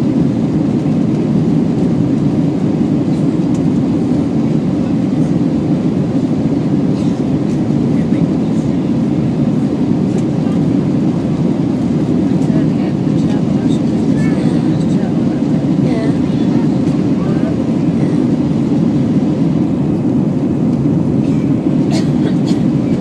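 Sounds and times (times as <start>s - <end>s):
airliner cabin engine hum: 0.0s - 23.0s.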